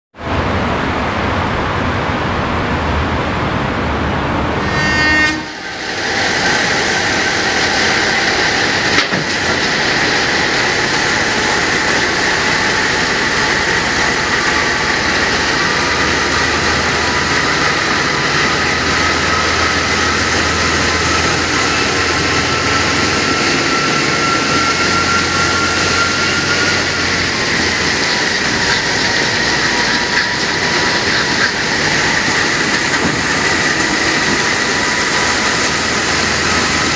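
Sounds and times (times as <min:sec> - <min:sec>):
train running on track: 0:00.1 - 0:36.9
high whine rising in pitch: 0:01.8 - 0:36.9.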